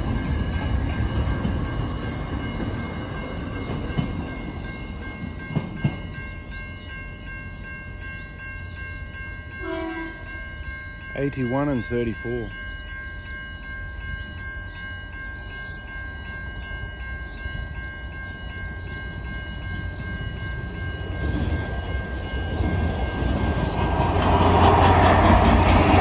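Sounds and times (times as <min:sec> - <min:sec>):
diesel railcar approaching: 0:00.0 - 0:26.0
level-crossing warning bell: 0:00.0 - 0:26.0.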